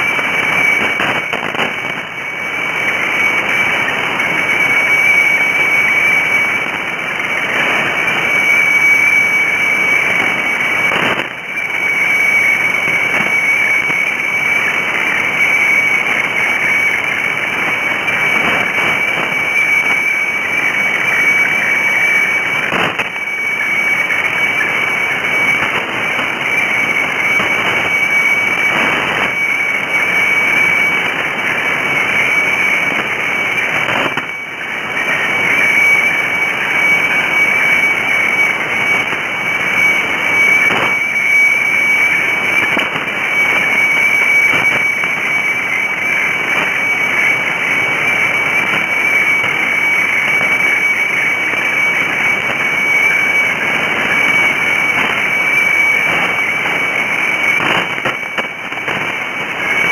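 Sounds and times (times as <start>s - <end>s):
radio crackles: 0.0s - 59.9s
static hiss: 0.0s - 59.9s
steady high radio tone: 0.0s - 59.9s.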